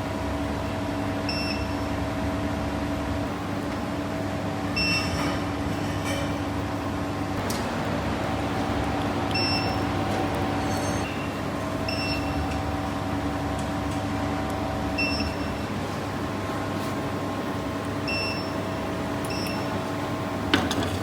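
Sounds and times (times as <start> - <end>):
furnace machine hum: 0.0 - 21.0.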